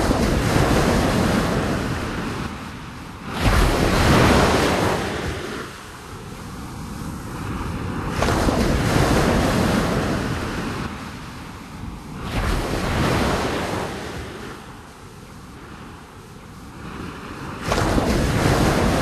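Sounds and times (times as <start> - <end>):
sea waves washing in: 0.0 - 19.0.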